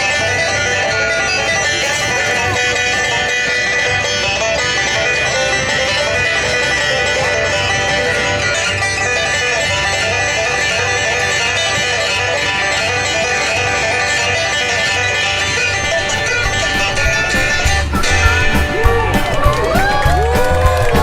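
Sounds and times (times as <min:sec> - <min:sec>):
upbeat bluegrass banjo and guitar: 0:00.0 - 0:21.0.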